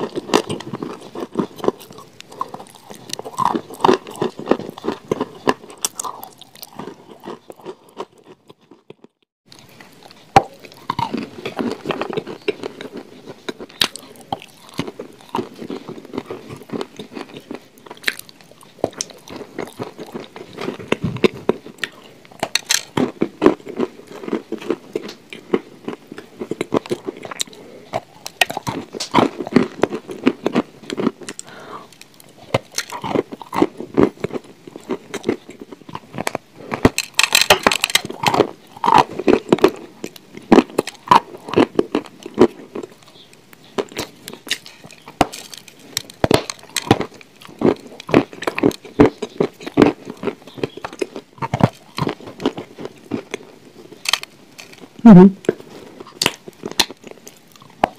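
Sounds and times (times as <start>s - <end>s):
chewing crunchy chalk: 0.0s - 57.9s.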